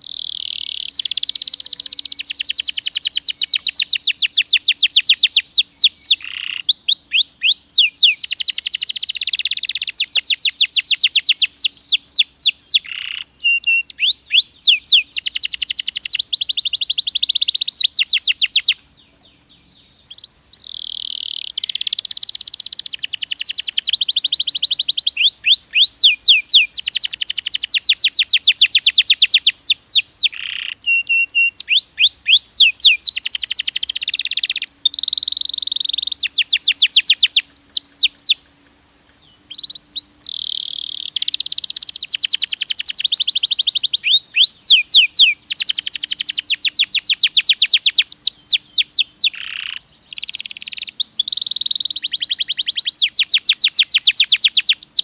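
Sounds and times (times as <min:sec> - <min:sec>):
canary singing trills: 0:00.0 - 0:38.4, 0:39.2 - 0:55.0.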